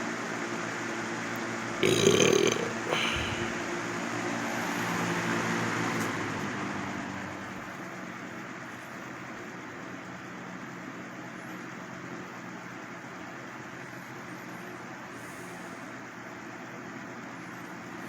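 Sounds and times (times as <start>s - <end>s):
box fan running: 0.0s - 18.0s.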